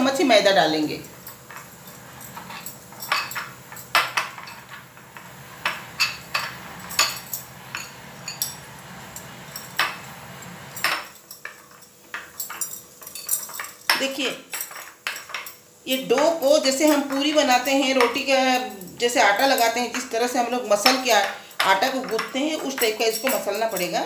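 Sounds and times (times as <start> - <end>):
spoon clinking against glass bowl: 1.0 - 4.8, 5.6 - 10.1, 10.8 - 24.0.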